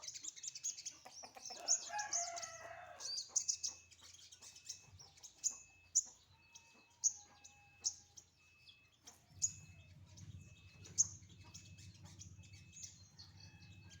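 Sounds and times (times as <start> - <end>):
bird sharp high chirps: 0.0 - 14.0.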